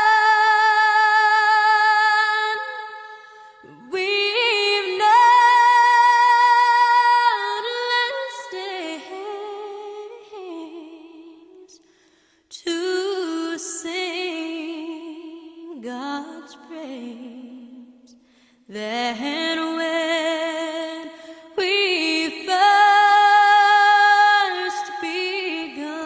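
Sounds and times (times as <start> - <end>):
woman singing slow song: 0.0 - 26.0.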